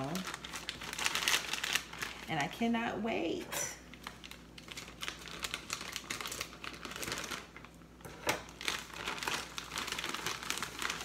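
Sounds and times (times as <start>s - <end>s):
plastic bag crinkling: 0.0s - 2.7s, 3.8s - 11.0s.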